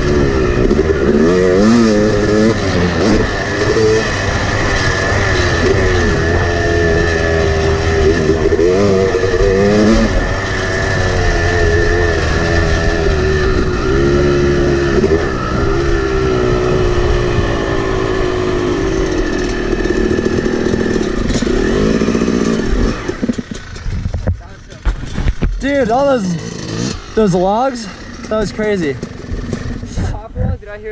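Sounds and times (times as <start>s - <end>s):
dirt bike engine revving: 0.0s - 30.2s.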